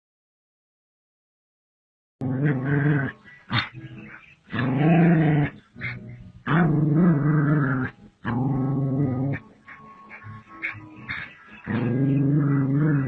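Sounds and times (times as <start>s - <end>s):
dog growling: 2.2s - 13.0s.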